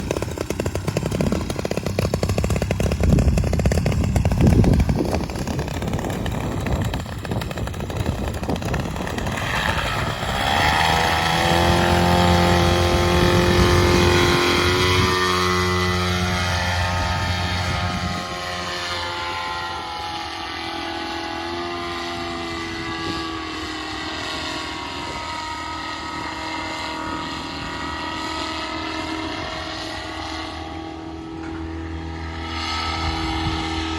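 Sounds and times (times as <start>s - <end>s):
wind buffeting microphone: 0.0s - 18.8s, 21.8s - 30.3s, 32.8s - 33.9s
paramotor engine drone: 0.0s - 33.9s.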